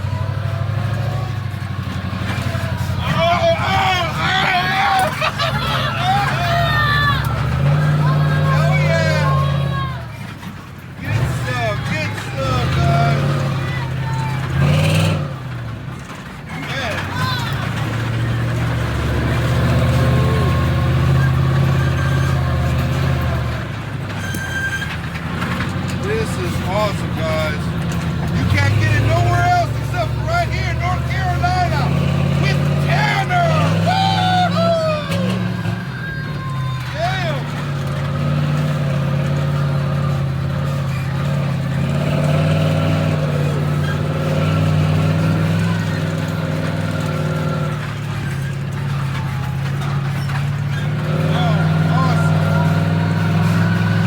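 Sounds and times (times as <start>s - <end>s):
large vehicle engine rumbling: 0.0s - 54.0s.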